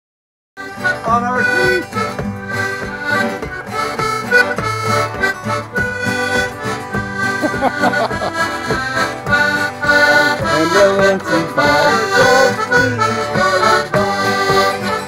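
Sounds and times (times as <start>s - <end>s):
accordion melody: 0.6s - 15.0s
acoustic guitar strumming: 0.6s - 15.0s.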